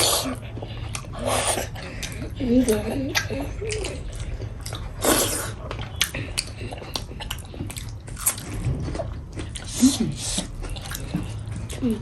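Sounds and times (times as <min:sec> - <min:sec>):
chewing and biting food: 0:00.0 - 0:12.0.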